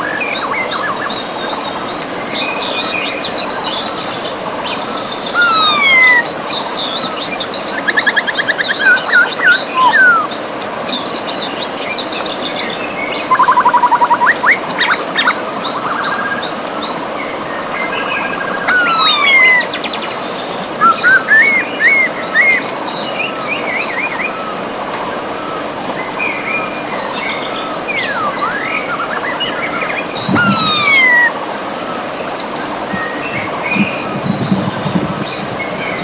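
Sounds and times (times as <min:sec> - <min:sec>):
birds singing: 0:00.0 - 0:36.0
river water rushing: 0:00.0 - 0:36.0.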